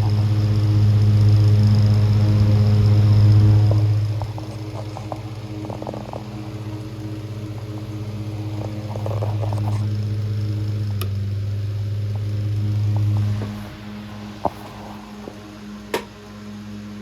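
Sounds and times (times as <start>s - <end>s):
light rattling ticks: 0.0s - 16.2s
electric fan motor hum: 0.0s - 17.0s.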